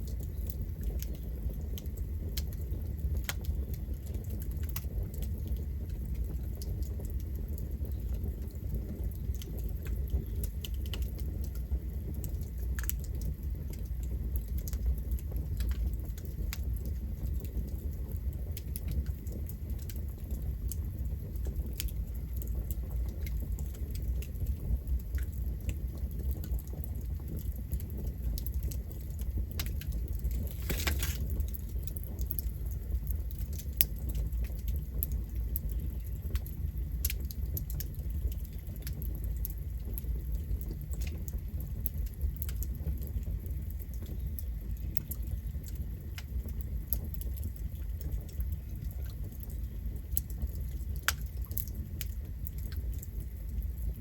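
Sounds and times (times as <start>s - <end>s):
burning wood crackling: 0.0s - 54.0s
campfire flames rumbling: 0.0s - 54.0s.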